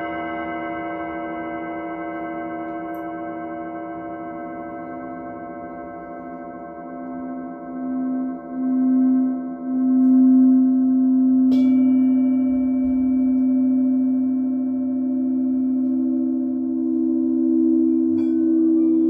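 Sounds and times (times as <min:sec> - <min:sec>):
singing bowl strike: 0:00.0 - 0:19.0
singing bowls ringing: 0:00.0 - 0:19.0.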